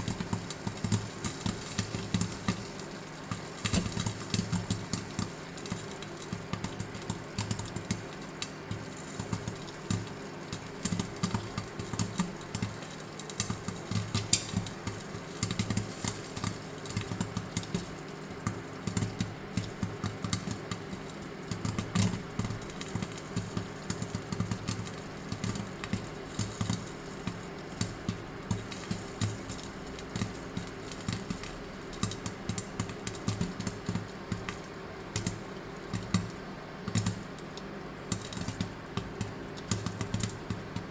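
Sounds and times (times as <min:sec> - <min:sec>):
popcorn popping in a pot: 0:00.0 - 0:40.9.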